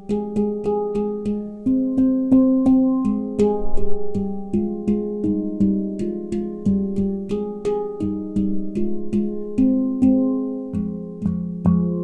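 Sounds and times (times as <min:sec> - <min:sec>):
handpan notes ringing: 0:00.0 - 0:12.0.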